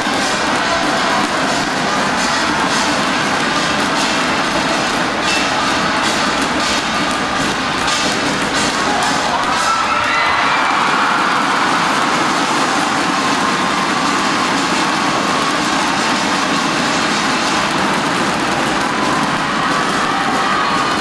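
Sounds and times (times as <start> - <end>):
arena crowd cheering and shouting: 0.0 - 21.0.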